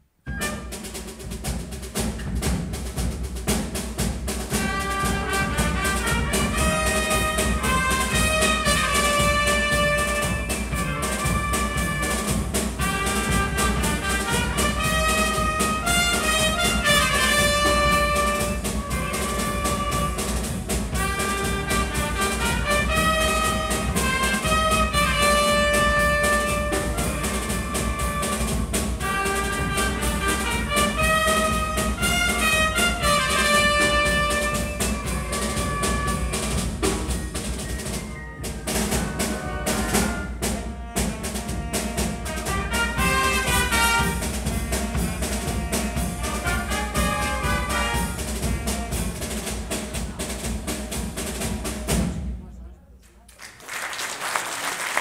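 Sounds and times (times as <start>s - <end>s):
wind band playing: 0.2s - 52.3s
drum strikes: 0.2s - 52.5s.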